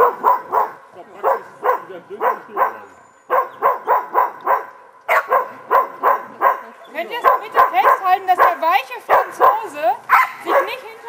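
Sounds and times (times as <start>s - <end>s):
dog barking: 0.0s - 10.8s.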